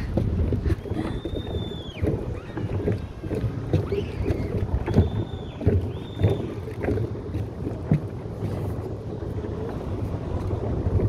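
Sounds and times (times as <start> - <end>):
floating pier knocking and creaking: 0.0 - 11.0
wind rumbling on microphone: 0.0 - 11.0.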